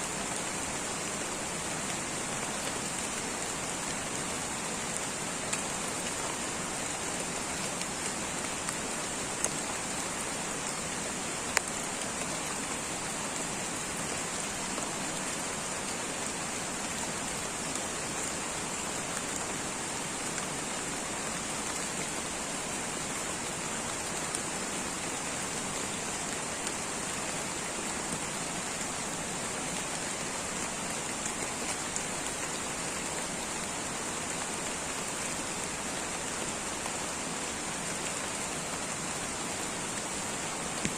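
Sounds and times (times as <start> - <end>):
light rain hissing: 0.0 - 40.9.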